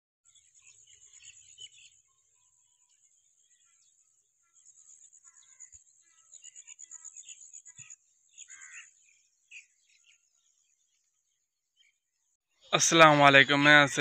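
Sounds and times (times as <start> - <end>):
birds chirping: 0.3 - 14.0.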